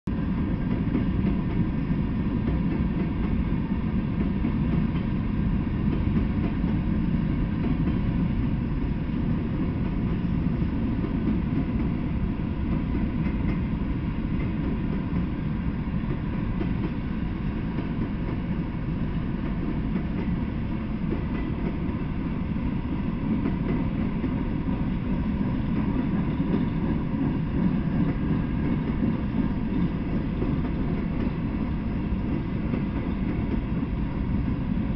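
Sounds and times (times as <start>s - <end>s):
freight train rolling past: 0.1s - 34.9s.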